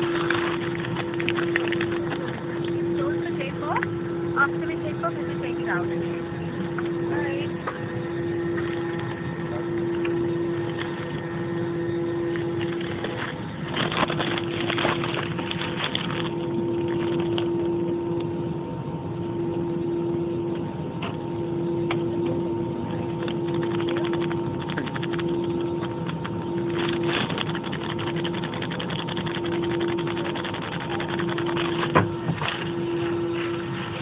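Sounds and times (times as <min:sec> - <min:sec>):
jet engines droning: 0:00.0 - 0:34.0.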